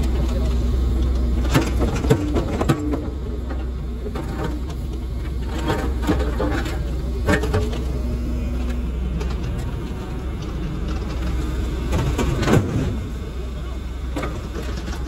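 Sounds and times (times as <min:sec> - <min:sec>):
paving machine engine drone: 0:00.0 - 0:15.0.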